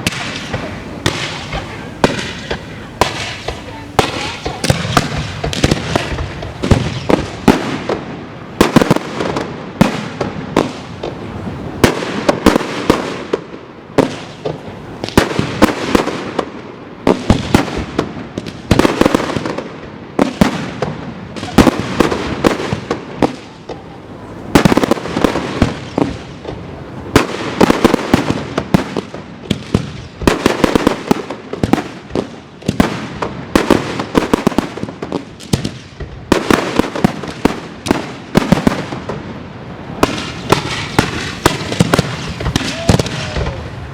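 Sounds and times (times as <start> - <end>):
fireworks banging: 0.0 - 43.9.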